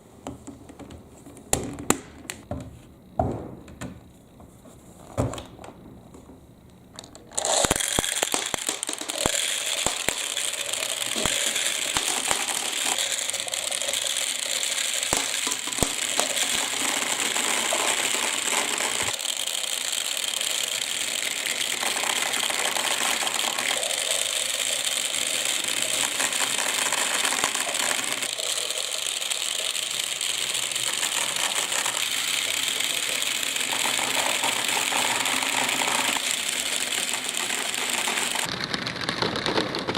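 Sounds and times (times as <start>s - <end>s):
balls rattling down a marble run: 7.0s - 39.9s.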